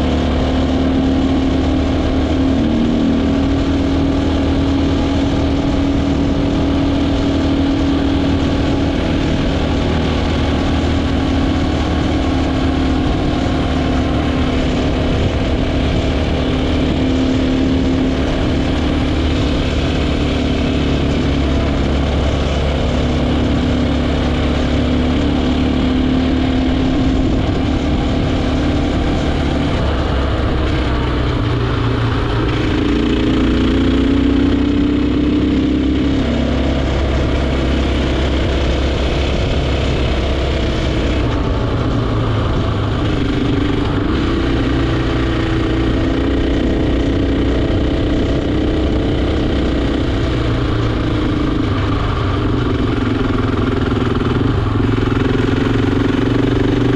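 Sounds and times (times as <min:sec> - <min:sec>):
motorcycle engine running: 0:00.0 - 0:56.9
wind and road rush: 0:00.0 - 0:56.9.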